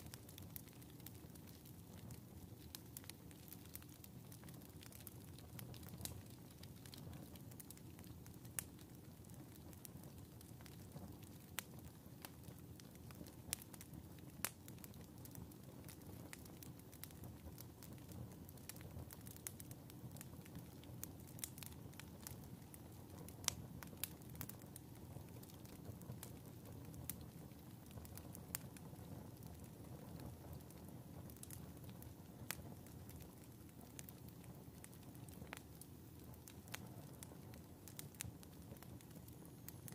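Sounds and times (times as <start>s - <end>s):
fire crackles and pops: 0.0s - 39.9s
low rush of flames: 0.0s - 39.9s.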